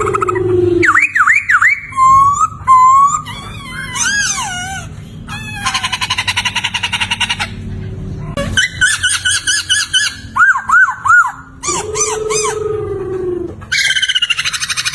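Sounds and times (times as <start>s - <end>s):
bird whistling song: 0.0s - 7.5s, 8.5s - 12.6s, 13.7s - 14.9s.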